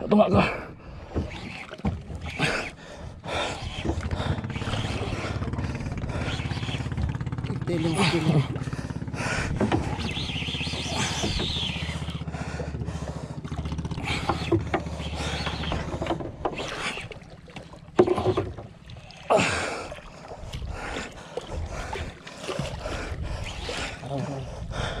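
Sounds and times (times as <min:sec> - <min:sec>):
boat engine rumbling: 0:00.0 - 0:25.0.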